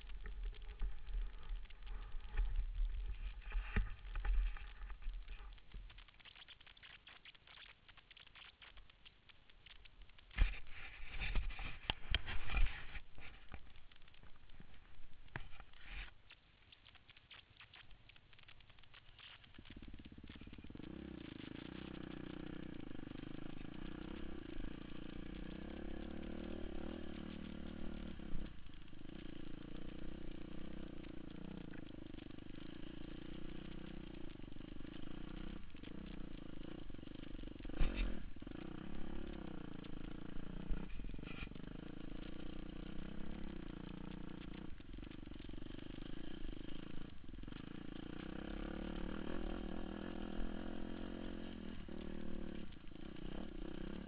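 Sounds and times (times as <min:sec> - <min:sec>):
motorcycle engine revving: 0:00.0 - 0:08.8, 0:09.6 - 0:16.1, 0:17.5 - 0:54.0.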